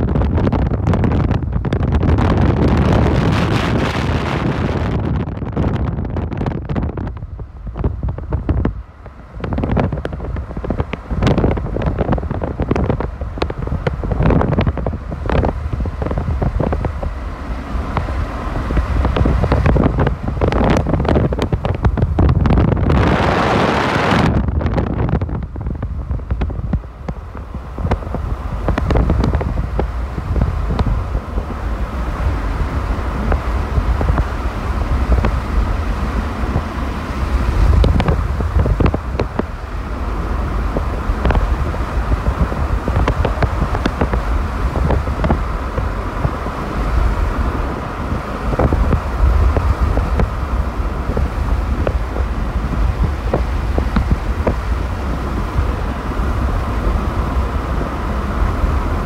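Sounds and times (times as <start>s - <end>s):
car rumbling on road: 0.0s - 59.0s
wind buffeting microphone: 0.0s - 59.0s.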